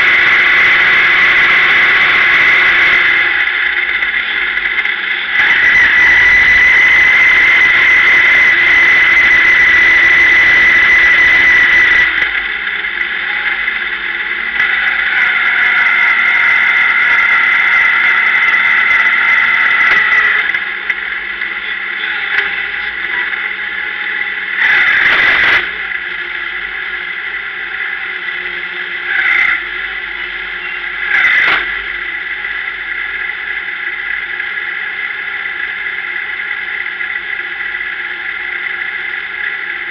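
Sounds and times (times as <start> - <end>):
engine throttle blips: 0.0 - 39.9
race car engine whine: 0.0 - 39.9.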